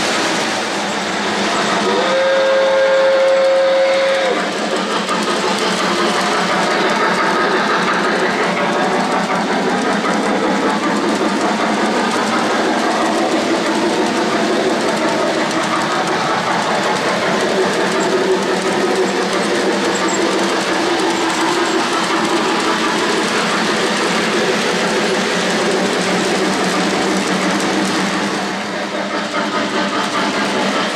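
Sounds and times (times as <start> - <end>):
model train wheels on rails: 0.0 - 30.9.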